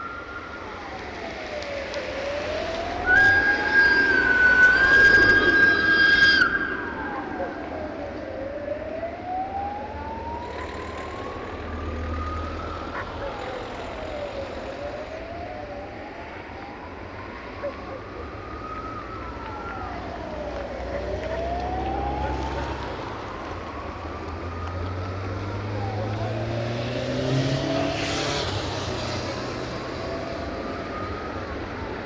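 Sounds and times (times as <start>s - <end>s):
wailing siren: 0.0s - 32.0s.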